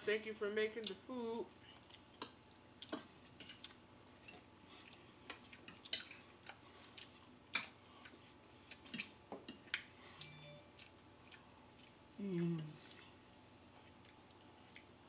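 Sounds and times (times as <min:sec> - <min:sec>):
people chewing: 0:01.6 - 0:15.0.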